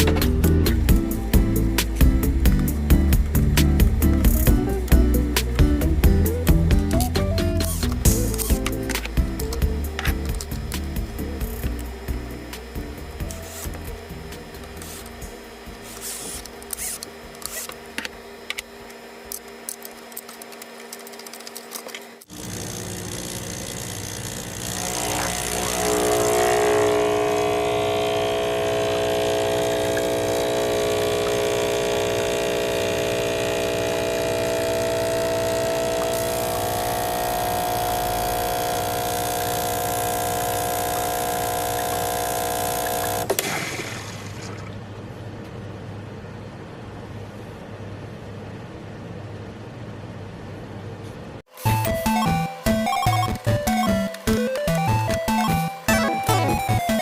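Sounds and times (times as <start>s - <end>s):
espresso machine pump buzzing: 0.0s - 44.4s, 51.5s - 57.0s.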